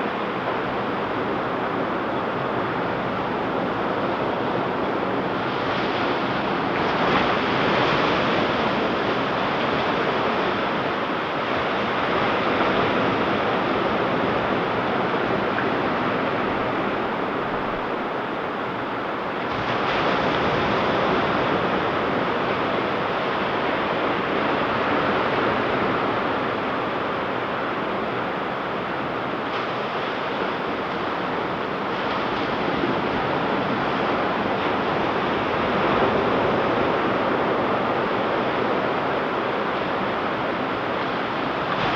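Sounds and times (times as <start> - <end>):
ocean waves breaking: 4.4 - 41.9.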